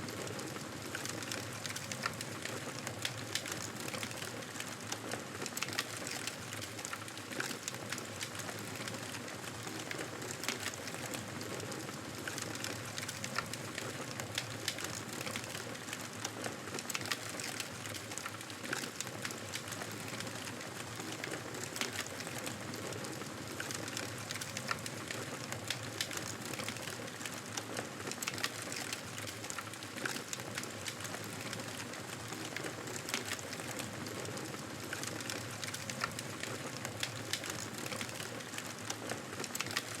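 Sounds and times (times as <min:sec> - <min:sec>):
wood fire crackling and popping: 0:00.1 - 0:40.0.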